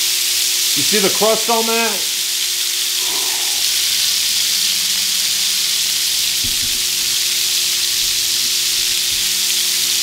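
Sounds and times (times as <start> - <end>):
burger patties sizzling in a pan: 0.0 - 10.0.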